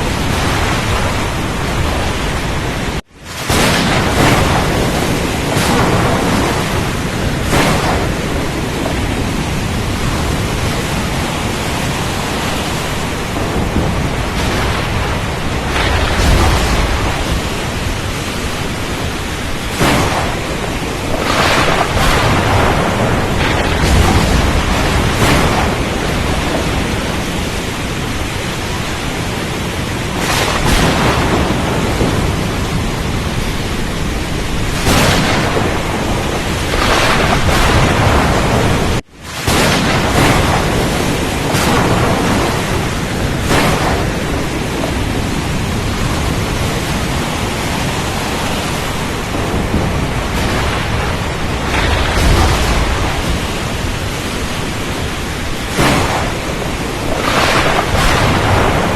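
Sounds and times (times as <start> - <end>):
rain and wind hiss: 0.0 - 58.9
thunder rumbles: 0.0 - 58.9.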